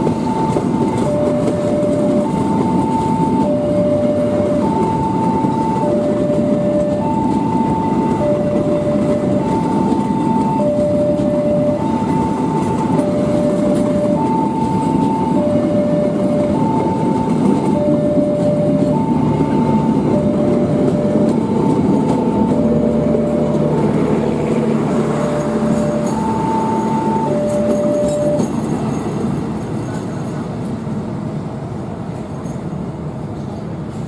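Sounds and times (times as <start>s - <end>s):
two-tone electronic warning alarm: 0.0s - 29.0s
low engine hum: 0.0s - 29.5s
train rumbling past: 0.0s - 34.0s.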